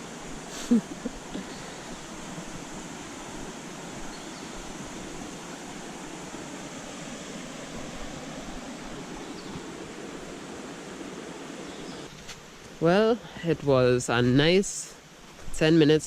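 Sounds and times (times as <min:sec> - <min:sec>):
flowing water rushing: 0:00.0 - 0:13.2.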